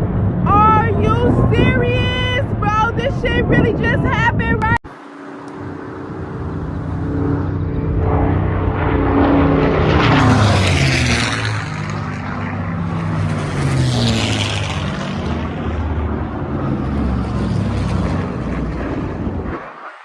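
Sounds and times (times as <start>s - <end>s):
aircraft engines flying past: 0.0s - 20.0s.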